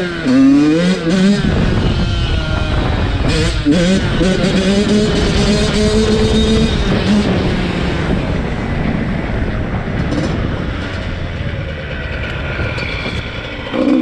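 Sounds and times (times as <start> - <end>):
dirt bike engine roar: 0.0 - 14.0
wind over microphone: 0.9 - 14.0.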